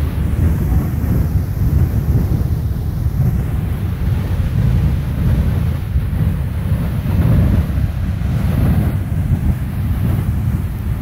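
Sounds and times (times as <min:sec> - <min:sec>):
geyser water and steam hissing: 0:00.0 - 0:11.0
wind buffeting microphone: 0:00.0 - 0:11.0.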